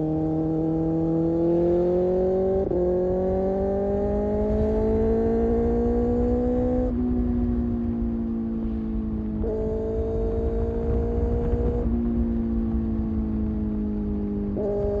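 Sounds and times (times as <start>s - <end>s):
motorcycle engine revving through gears: 0.0s - 15.0s
wind rush on microphone: 2.2s - 15.0s.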